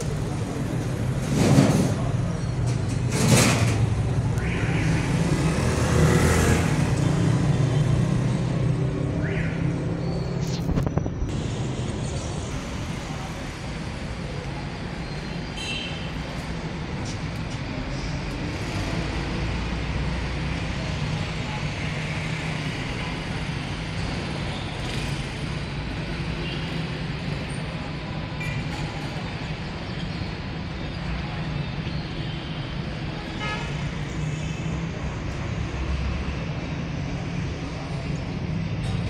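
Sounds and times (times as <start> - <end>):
street traffic engine hum: 0.0 - 39.0.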